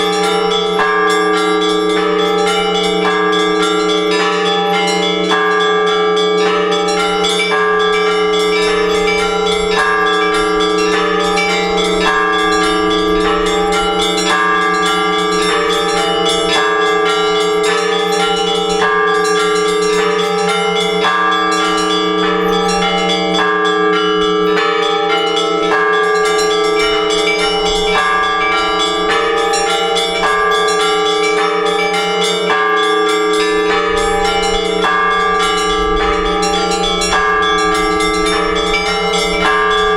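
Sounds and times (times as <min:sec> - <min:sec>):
hum of large bells: 0:00.0 - 0:39.9
small church bells pealing: 0:00.0 - 0:39.9.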